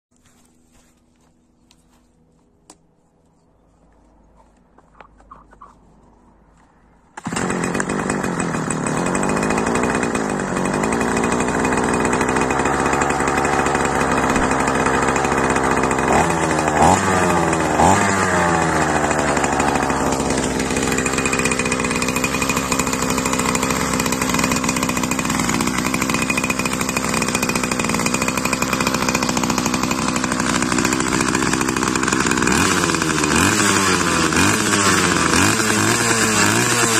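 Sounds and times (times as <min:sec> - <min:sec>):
brush cutter engine running: 0:05.8 - 0:36.9
engine revving: 0:07.1 - 0:36.9.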